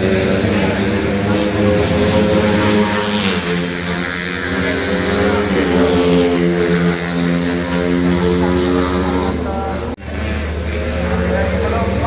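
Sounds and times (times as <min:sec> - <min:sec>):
motorcycle engines revving high: 0:00.0 - 0:12.0.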